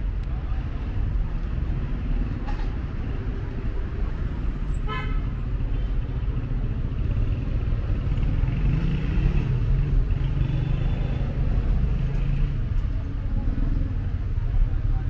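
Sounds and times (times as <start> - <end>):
city traffic engines rumbling: 0.0 - 15.0.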